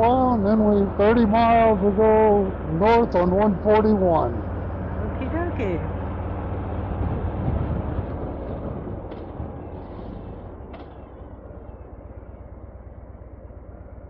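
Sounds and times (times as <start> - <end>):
wind noise: 0.0 - 11.8
motorcycle engine running: 0.0 - 14.0.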